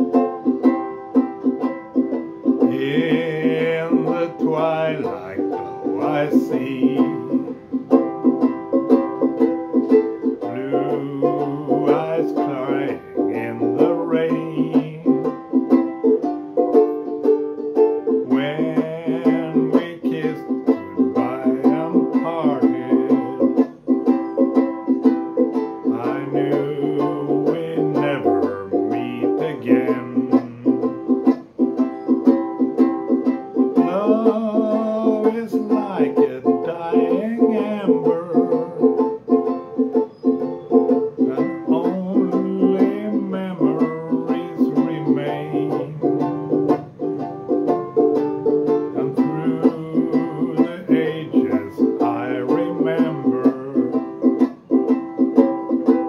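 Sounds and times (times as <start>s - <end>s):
acoustic plucked string music: 0.0s - 56.0s.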